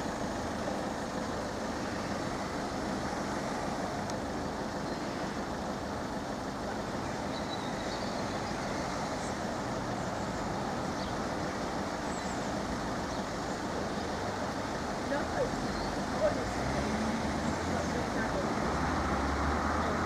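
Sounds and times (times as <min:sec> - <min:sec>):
rumble of traffic: 0:00.0 - 0:20.0.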